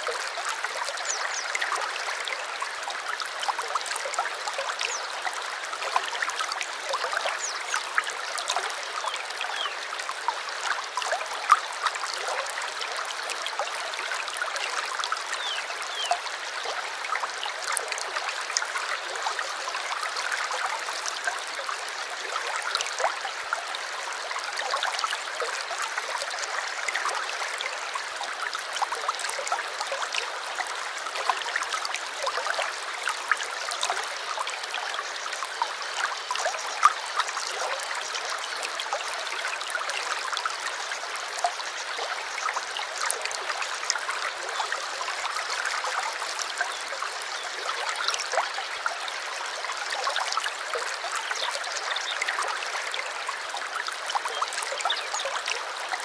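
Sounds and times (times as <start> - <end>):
stream babbling and trickling: 0.0 - 56.0.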